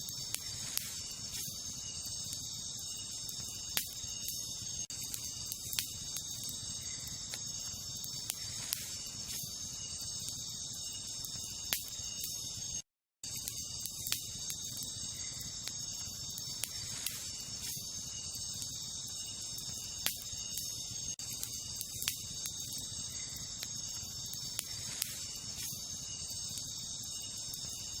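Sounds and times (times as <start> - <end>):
campfire crackling and popping: 0.0 - 12.4, 13.2 - 28.0
night insects chirping: 0.0 - 28.0.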